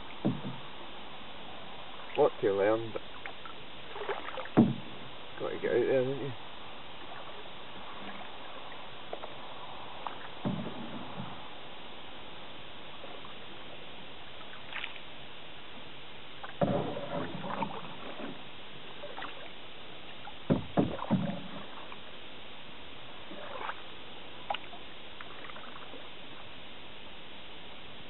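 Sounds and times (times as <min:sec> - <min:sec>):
paddle splashing and dripping: 0:00.0 - 0:05.4, 0:06.3 - 0:26.6
steady hiss: 0:00.0 - 0:28.0.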